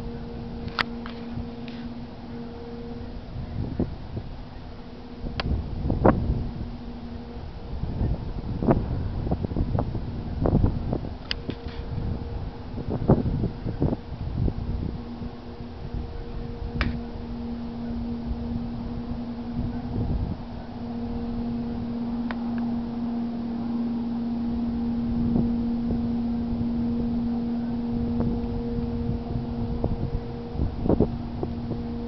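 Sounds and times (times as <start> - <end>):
low-pitched drone: 0.0 - 32.0
wind rumble on microphone: 0.0 - 32.0.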